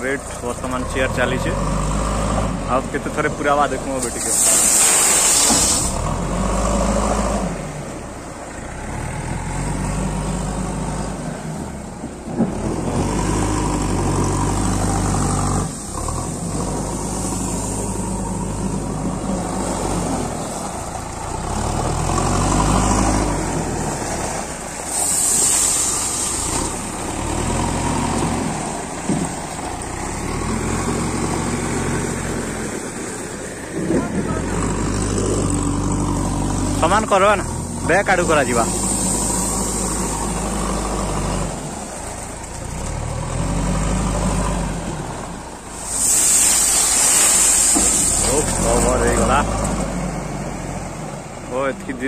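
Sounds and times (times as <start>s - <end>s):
backhoe loader diesel engine revving: 0.0s - 52.0s
tractor diesel engine running: 0.0s - 52.0s.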